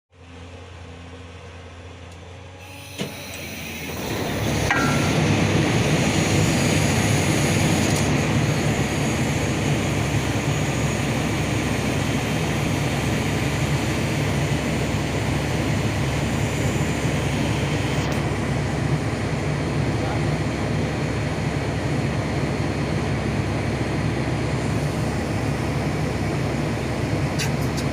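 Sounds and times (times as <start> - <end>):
truck engine idling: 0.2 - 27.9
concrete pump mechanical din: 2.6 - 27.9.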